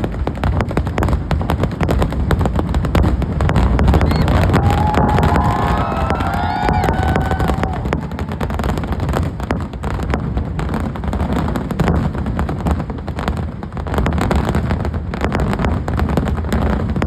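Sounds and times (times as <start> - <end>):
fireworks cracks and bangs: 0.0 - 17.0
whistling fireworks: 0.0 - 17.0.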